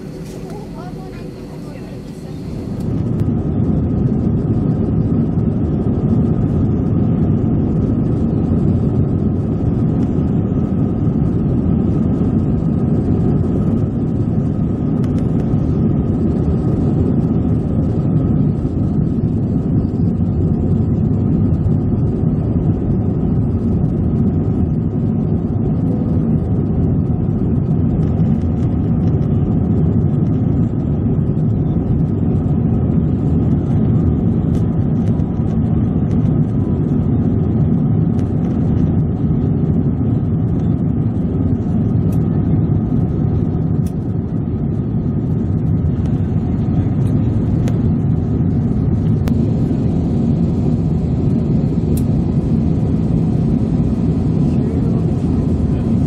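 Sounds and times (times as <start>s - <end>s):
faint engine whine: 0.0s - 56.0s
jet engines rumbling: 0.0s - 56.0s.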